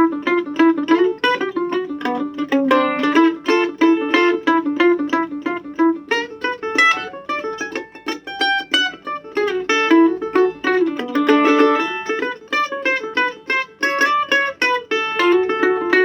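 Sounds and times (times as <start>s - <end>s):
mandolin picked melody: 0.0s - 16.0s.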